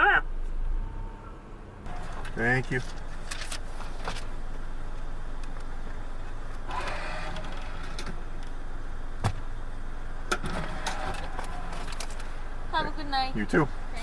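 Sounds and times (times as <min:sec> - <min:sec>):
car engine idling: 0:01.8 - 0:14.0.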